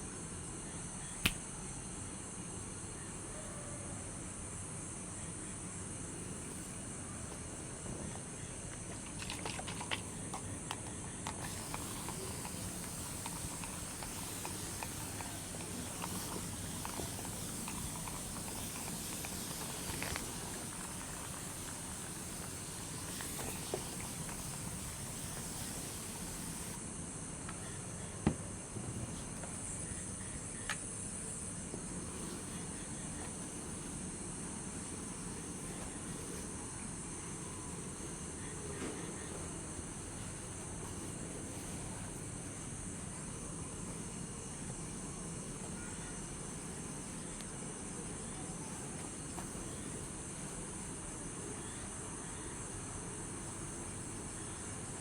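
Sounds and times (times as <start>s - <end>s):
crickets chirring: 0.0s - 55.0s
light rain hiss: 5.9s - 26.8s, 28.9s - 55.0s.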